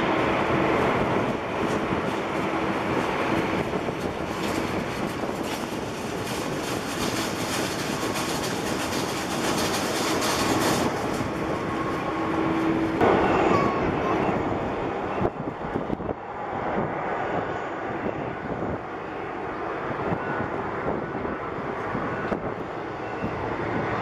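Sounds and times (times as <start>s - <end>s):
turboprop engines droning: 0.0s - 24.0s.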